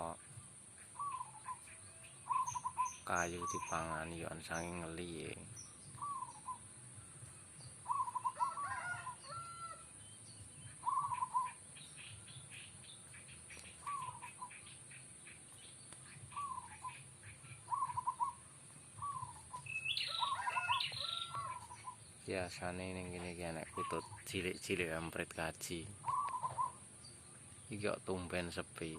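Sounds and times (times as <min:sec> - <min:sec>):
doves cooing: 0:00.0 - 0:07.2, 0:07.8 - 0:09.9, 0:10.6 - 0:15.6, 0:16.2 - 0:28.2
small birds chirping: 0:00.0 - 0:28.9.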